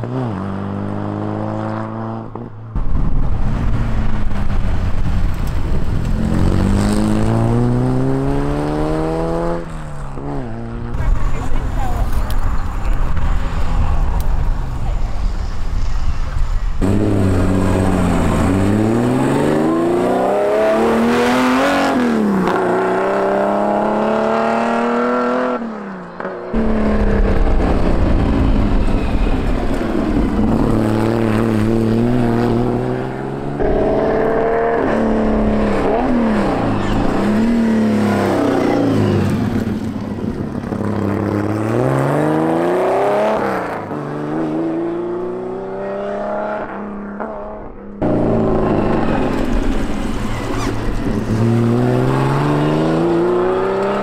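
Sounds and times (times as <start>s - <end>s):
race car engines accelerating: 0.0s - 54.0s.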